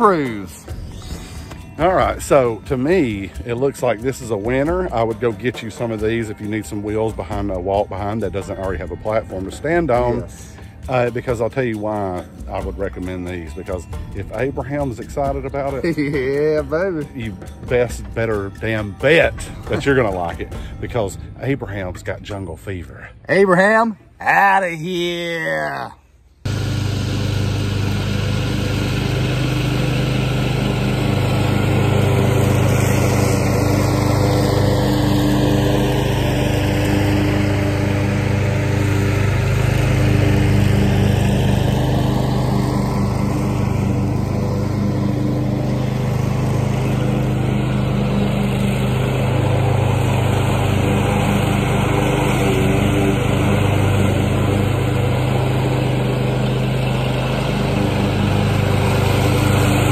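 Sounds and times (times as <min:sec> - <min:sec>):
lawn mower engine running: 0:00.0 - 0:22.4, 0:24.4 - 0:59.9.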